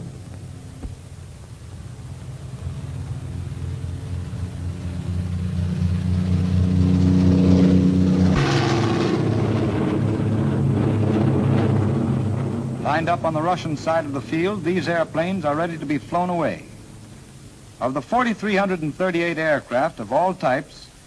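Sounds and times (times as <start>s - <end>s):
piston aircraft engine droning: 0.0s - 21.0s.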